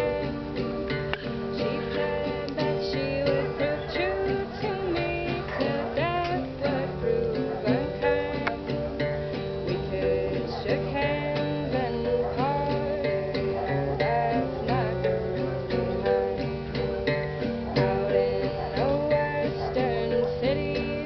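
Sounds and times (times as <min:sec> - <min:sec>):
acoustic guitar strumming: 0:00.0 - 0:21.0
person singing: 0:00.0 - 0:21.0.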